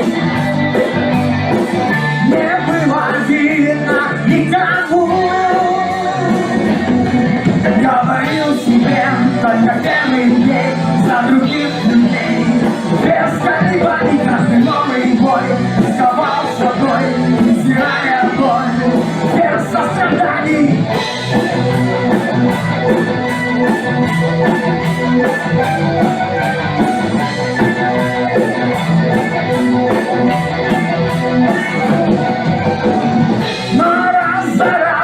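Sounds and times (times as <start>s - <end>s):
instrumental rock guitar with beat: 0.0s - 35.0s.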